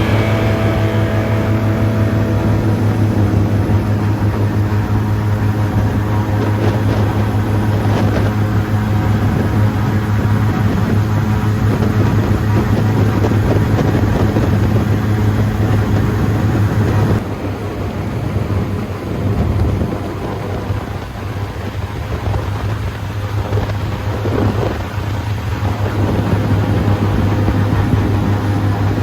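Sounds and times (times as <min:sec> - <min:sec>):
airboat engine drone: 0:00.0 - 0:29.0
rushing wind noise: 0:00.0 - 0:29.0.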